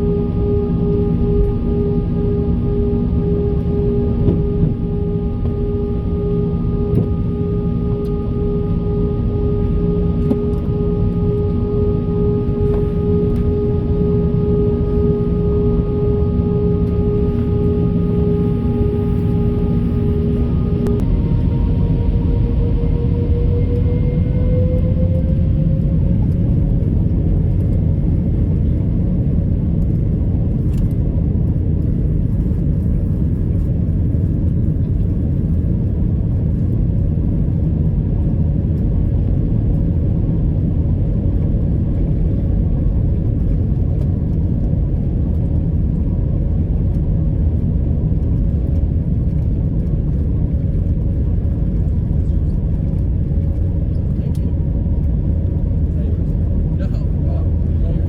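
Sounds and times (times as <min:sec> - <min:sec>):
engine whine: 0:00.0 - 0:58.0
jet engine rumble in cabin: 0:00.0 - 0:58.0.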